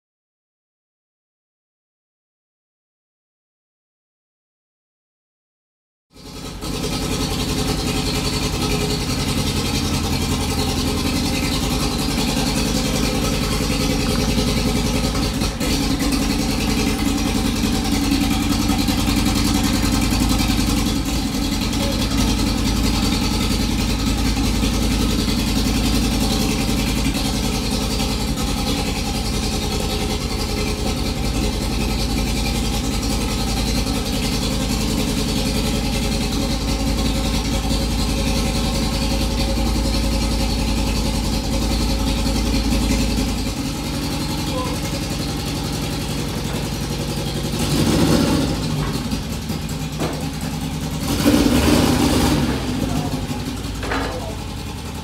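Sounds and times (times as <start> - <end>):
car engine idling: 6.2 - 55.0.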